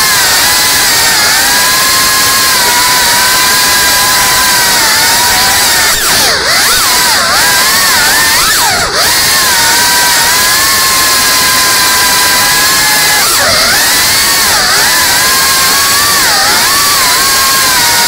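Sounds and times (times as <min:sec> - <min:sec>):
drone propellers whining: 0:00.0 - 0:18.0.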